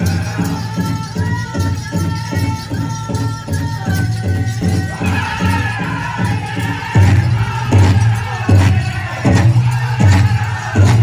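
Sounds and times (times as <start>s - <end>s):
large drum steady beat: 0.0s - 11.0s
singers high held voices: 0.0s - 11.0s.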